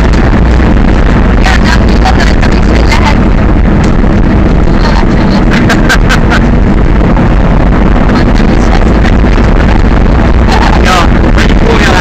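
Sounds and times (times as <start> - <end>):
truck engine running: 0.0 - 12.0
wind noise on microphone: 0.0 - 12.0.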